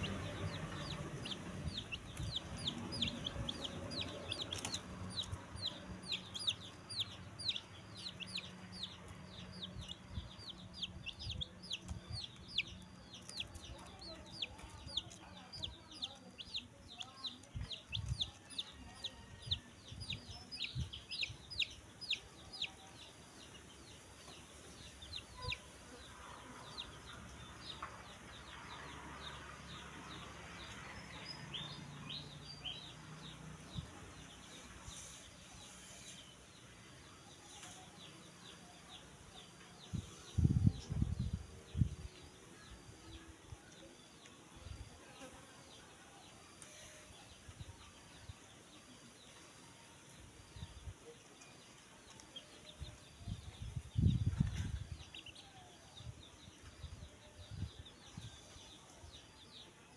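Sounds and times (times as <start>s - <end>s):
chicks peeping: 0.0s - 36.5s, 46.6s - 59.2s.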